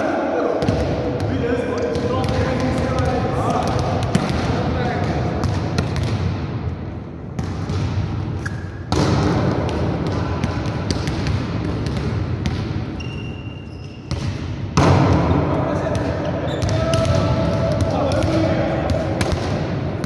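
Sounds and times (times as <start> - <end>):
echoing gym background noise: 0.0 - 20.0
volleyballs slapping and bouncing: 0.6 - 13.3, 14.0 - 20.0.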